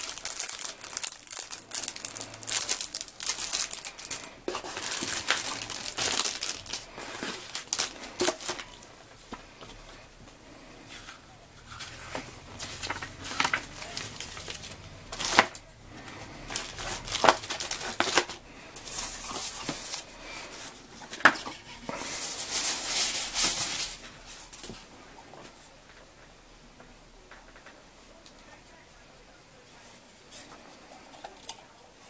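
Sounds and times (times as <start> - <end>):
paper and plastic wrapping crinkling: 0.0 - 26.0.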